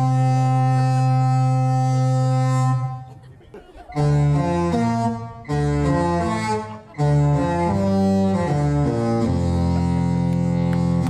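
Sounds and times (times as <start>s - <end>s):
ship horn playing melody: 0.0s - 3.2s, 3.9s - 11.0s.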